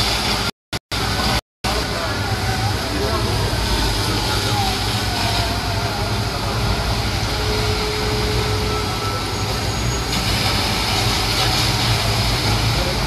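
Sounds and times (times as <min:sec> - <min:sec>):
heavy vehicle engine rumble: 0:00.0 - 0:13.0.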